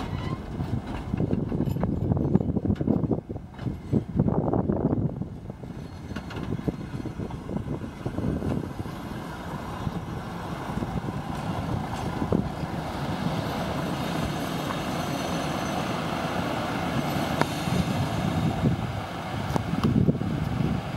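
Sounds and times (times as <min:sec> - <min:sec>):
wind on microphone: 0:00.0 - 0:15.0, 0:16.0 - 0:20.9
diesel engine rumbling: 0:00.0 - 0:20.9.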